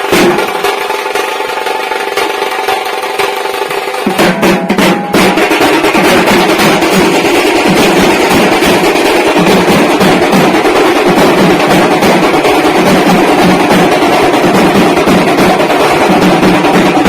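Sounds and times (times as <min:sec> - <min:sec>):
drums beating steady rhythm: 0:00.0 - 0:17.0.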